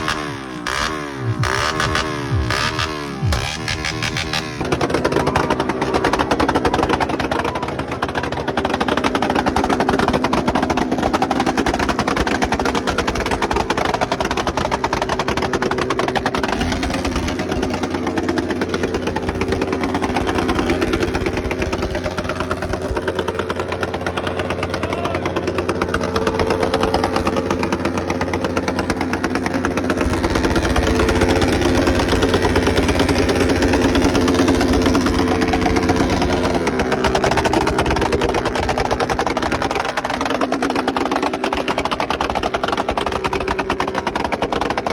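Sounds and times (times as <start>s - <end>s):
motorcycle engine rumbling: 0.0s - 44.9s.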